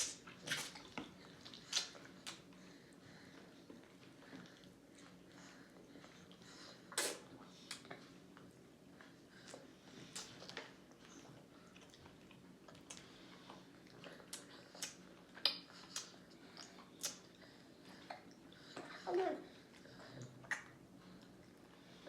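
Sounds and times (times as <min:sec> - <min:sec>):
babies chewing food: 0:00.0 - 0:22.0.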